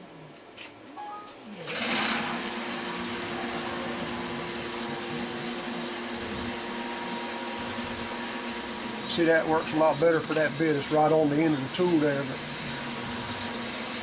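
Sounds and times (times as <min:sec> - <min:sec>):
machine hum: 0:01.6 - 0:14.0
coolant spraying onto drill bit: 0:01.7 - 0:14.0.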